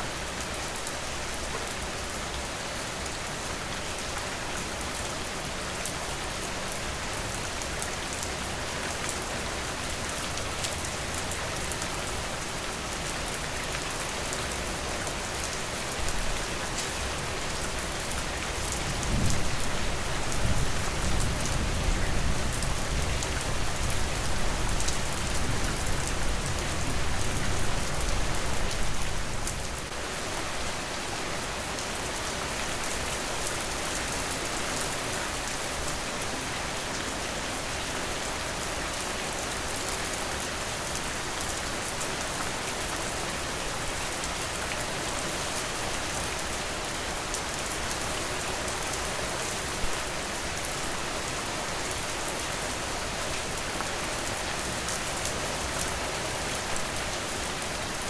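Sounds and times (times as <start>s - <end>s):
rain falling on a porch: 0.0s - 58.0s.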